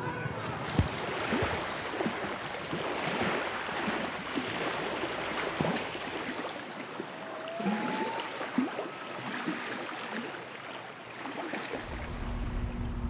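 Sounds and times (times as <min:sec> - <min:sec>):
water lapping and splashing: 0:00.0 - 0:13.0.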